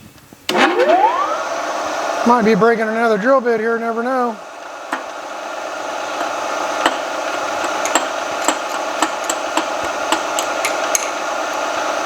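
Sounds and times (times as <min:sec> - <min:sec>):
milling machine drill spindle running: 0:00.5 - 0:12.0.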